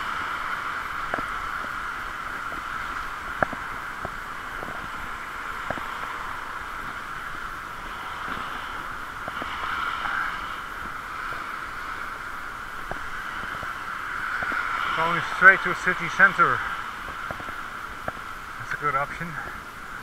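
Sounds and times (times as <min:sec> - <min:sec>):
bicycle tyres hissing on wet street: 0:00.0 - 0:20.0.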